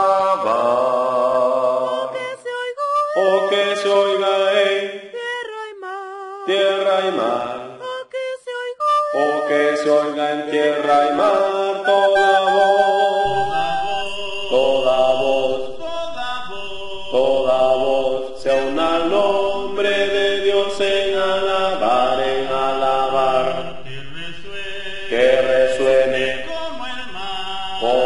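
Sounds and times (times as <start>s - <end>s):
choir singing a hymn: 0.0s - 5.5s, 6.5s - 8.1s, 8.8s - 28.0s.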